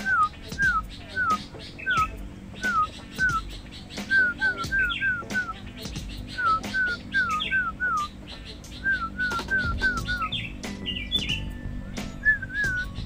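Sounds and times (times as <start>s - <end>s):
bird whistling short notes: 0.0s - 13.0s
high thin bird chirps: 0.0s - 13.0s.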